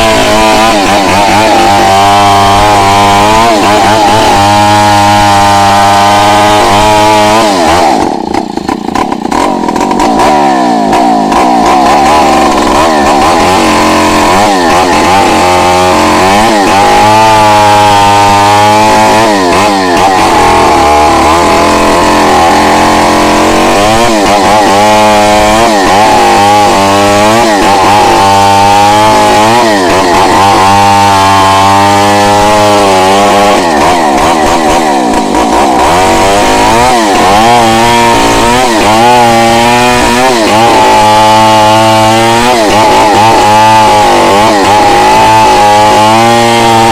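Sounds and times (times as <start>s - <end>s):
chainsaw cutting through log: 0.0s - 46.9s.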